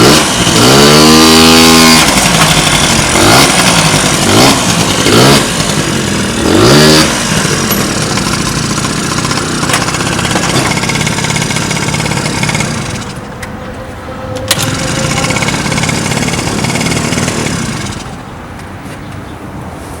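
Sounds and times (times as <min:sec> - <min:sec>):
scooter engine revving: 0:00.0 - 0:13.3, 0:14.5 - 0:18.4.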